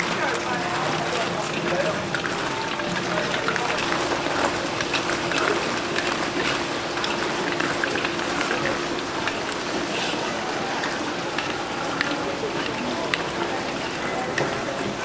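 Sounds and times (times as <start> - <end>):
sauce sizzling and bubbling in wok: 0.0 - 15.0.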